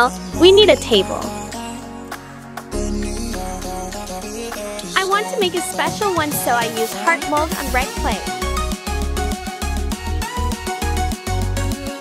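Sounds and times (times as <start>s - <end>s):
upbeat music with plucked strings: 0.0s - 12.0s.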